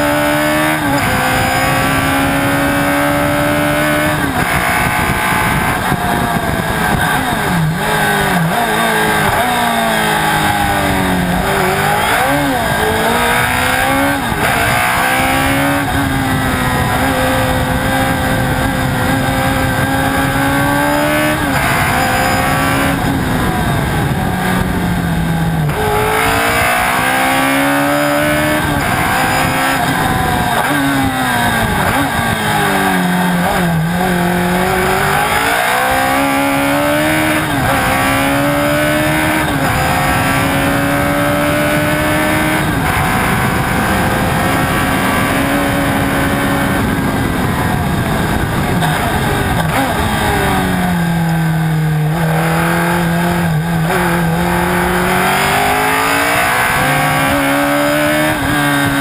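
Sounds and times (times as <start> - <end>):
race car engine accelerating: 0.0 - 59.0
wind noise: 0.0 - 59.0.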